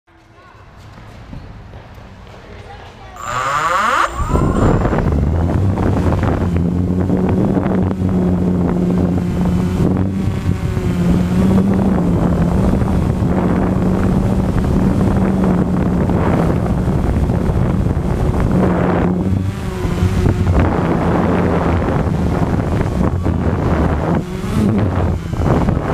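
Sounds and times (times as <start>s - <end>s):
quadcopter propellers buzzing: 3.2s - 25.9s
wind rushing over microphone: 3.2s - 25.9s.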